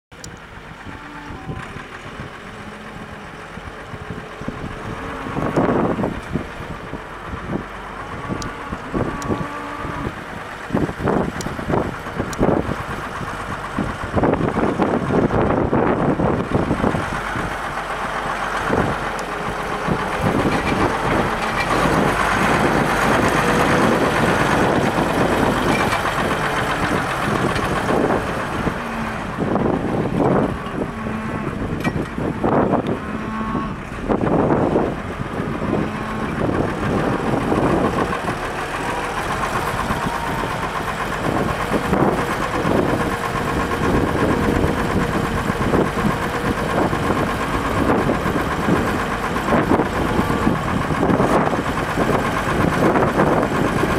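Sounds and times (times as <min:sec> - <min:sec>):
tractor diesel engine running: 0:00.1 - 0:53.9.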